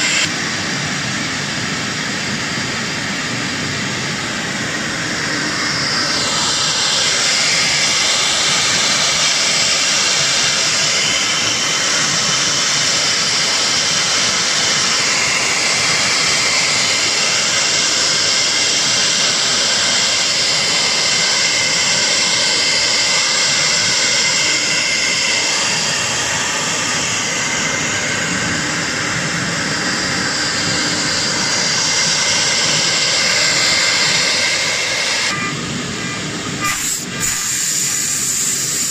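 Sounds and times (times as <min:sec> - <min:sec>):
router spindle high-pitched whine: 0:00.0 - 0:38.9
hiss of cutting wood: 0:05.5 - 0:35.4, 0:36.6 - 0:38.9.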